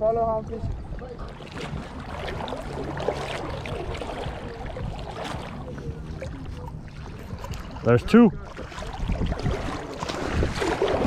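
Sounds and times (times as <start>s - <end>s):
wind and water rushing: 0.0s - 11.0s
faint indistinct voices: 0.6s - 11.0s.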